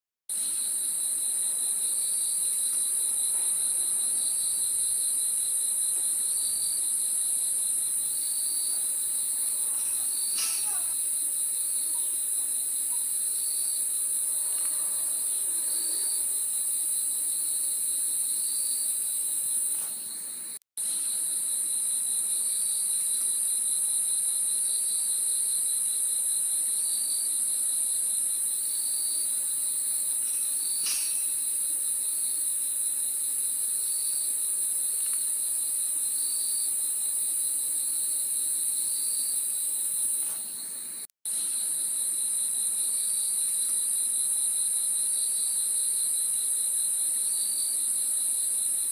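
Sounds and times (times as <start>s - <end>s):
high-pitched insect chorus: 0.3s - 48.9s.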